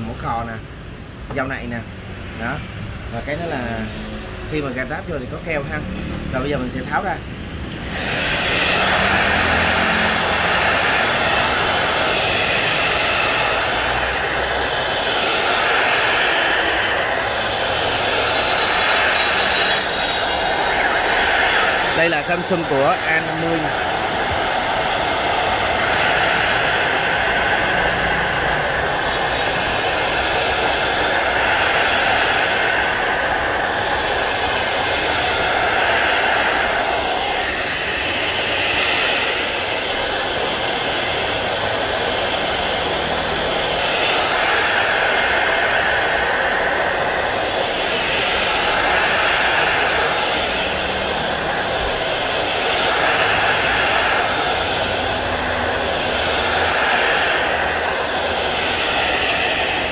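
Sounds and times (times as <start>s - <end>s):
hot air gun blowing: 7.7s - 59.9s.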